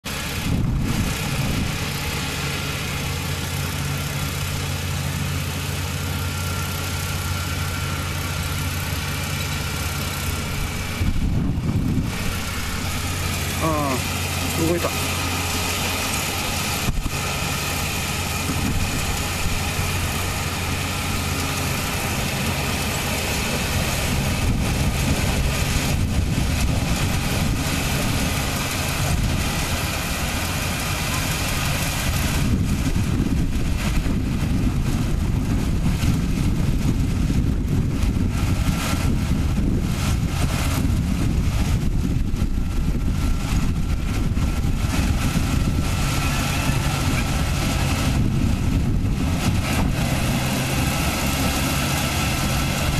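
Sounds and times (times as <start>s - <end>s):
combine harvester running: 0.0s - 52.9s.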